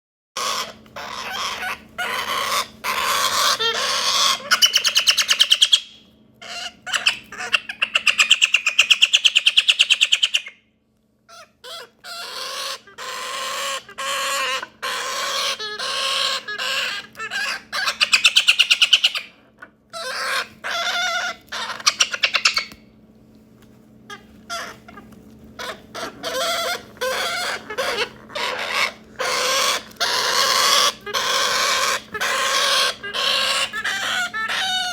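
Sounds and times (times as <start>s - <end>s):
parrot chick begging calls: 0.4s - 10.6s, 11.3s - 22.8s, 24.1s - 25.0s, 25.6s - 34.9s.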